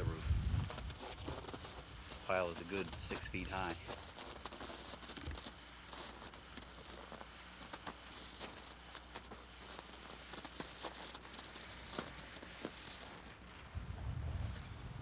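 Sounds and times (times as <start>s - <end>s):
steady low hum: 0.0s - 15.0s
footsteps crunching on snow: 0.1s - 14.8s.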